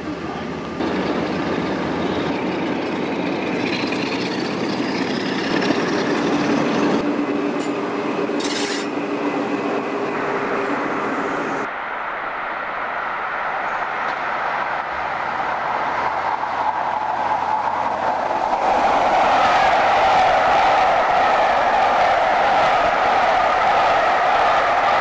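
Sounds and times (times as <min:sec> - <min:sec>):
diesel train engine: 0:00.0 - 0:25.0
train wheel and rail noise: 0:00.0 - 0:25.0.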